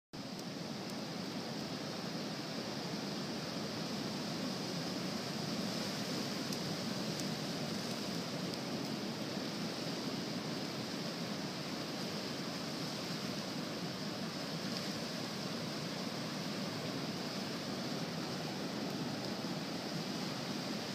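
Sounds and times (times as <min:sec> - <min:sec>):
ocean surf breaking: 0:03.8 - 0:20.9.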